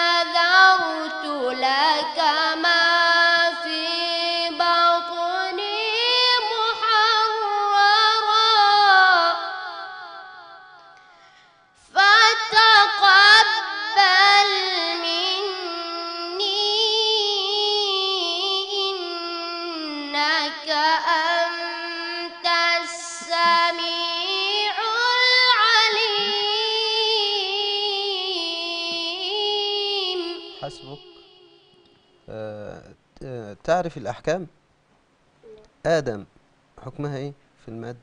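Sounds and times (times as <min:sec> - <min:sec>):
boy reciting melodically: 0:00.0 - 0:10.9, 0:11.8 - 0:34.0.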